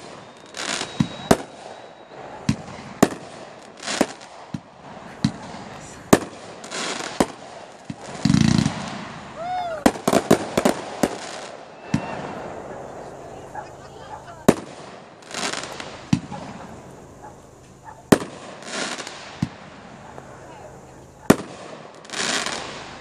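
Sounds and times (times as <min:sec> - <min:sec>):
fireworks bangs: 0:00.0 - 0:23.0
fireworks hissing crackle: 0:00.0 - 0:23.0
low fireworks boom: 0:00.0 - 0:23.0.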